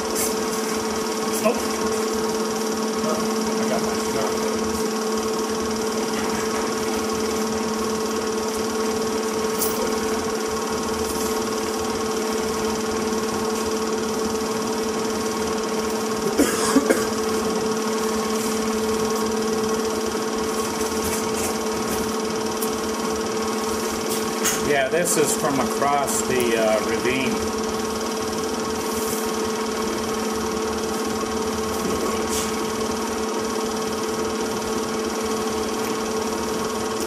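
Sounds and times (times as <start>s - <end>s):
film projector whirring: 0.0s - 37.0s.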